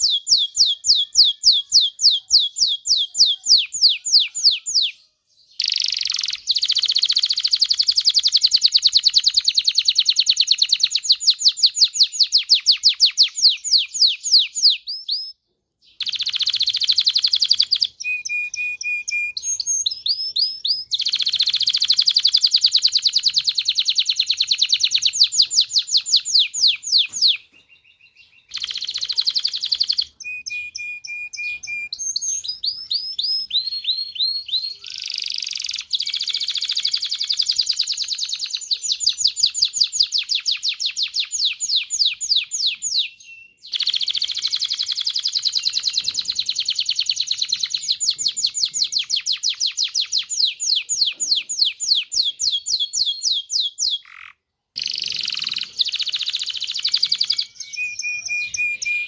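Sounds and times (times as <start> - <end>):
canary singing rapid trills: 0.0 - 59.0.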